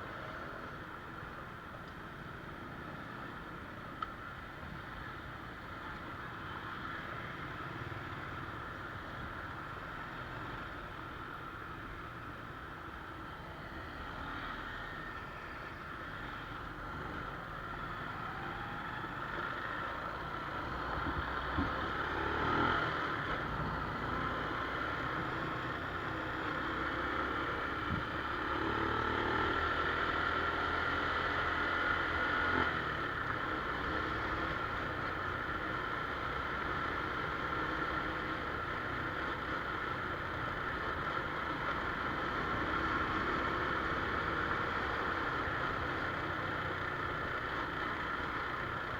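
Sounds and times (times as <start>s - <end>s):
motorcycle engine drone: 0.0s - 48.9s
road noise: 0.0s - 48.9s.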